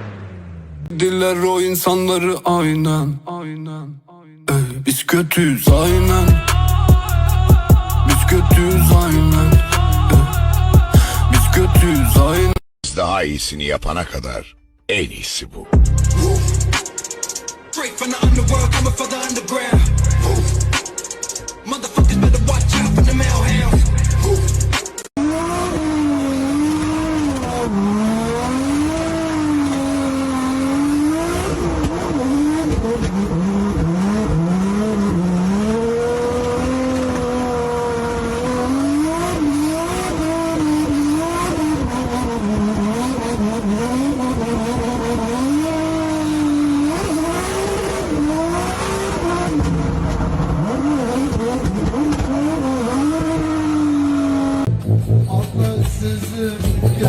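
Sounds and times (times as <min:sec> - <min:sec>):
car engine revving: 0:00.0 - 0:01.4, 0:05.7 - 0:12.6, 0:15.8 - 0:57.0.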